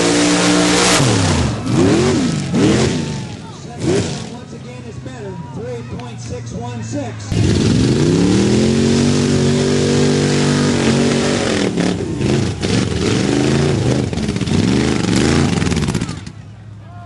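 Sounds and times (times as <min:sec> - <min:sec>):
truck engine revving: 0:00.0 - 0:05.1, 0:06.1 - 0:16.5.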